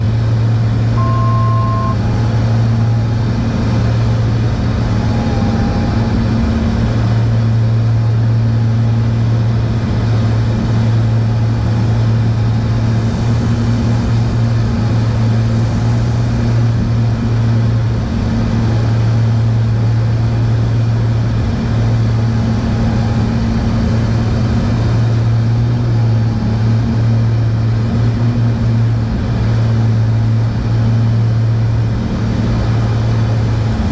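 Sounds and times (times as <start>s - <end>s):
aircraft engines droning in cabin: 0.0s - 33.9s.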